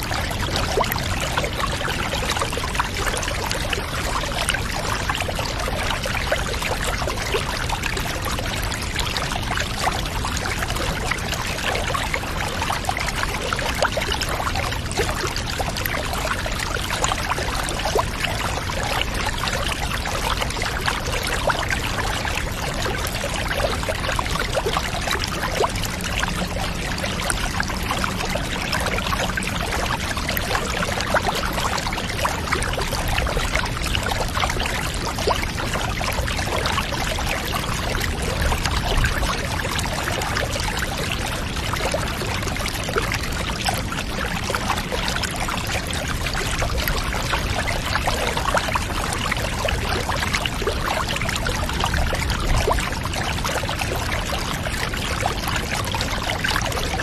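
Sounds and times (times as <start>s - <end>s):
trickling stream water: 0.0s - 57.0s.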